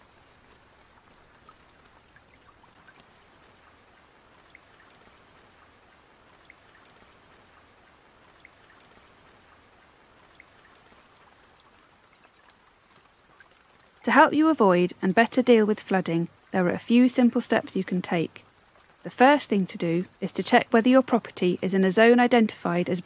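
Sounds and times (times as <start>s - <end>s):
faint trickle of water: 0.0s - 23.0s
water drips: 0.0s - 23.0s.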